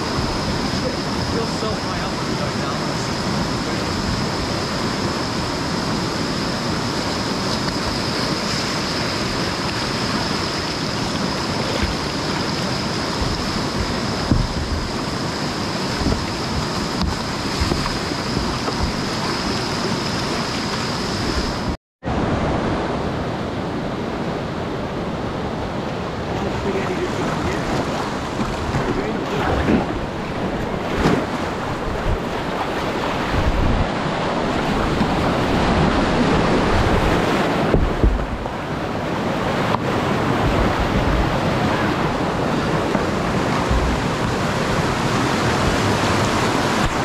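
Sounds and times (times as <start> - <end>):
whitewater rapids rushing: 0.0 - 47.0.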